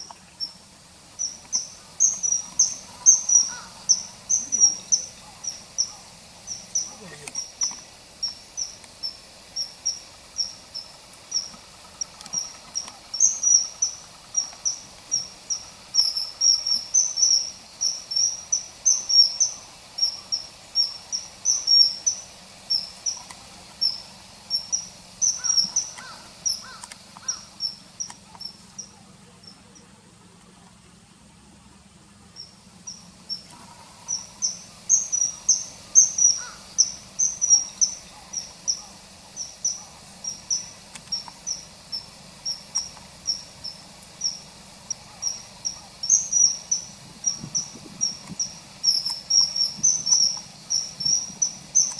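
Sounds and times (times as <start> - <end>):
kingfisher calling: 0.0 - 29.6, 32.4 - 51.9.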